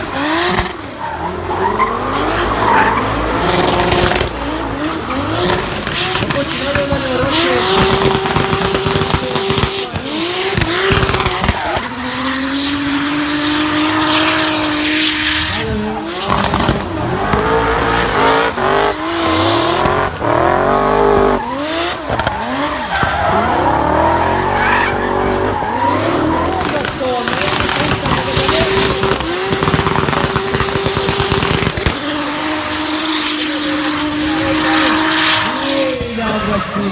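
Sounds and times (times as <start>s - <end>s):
tyres squealing: 0.0s - 36.7s
car engine revving: 0.0s - 36.9s.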